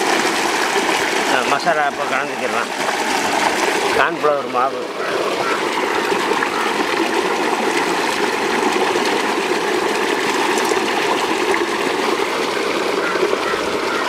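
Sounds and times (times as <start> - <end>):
running water rushing: 0.0 - 14.0.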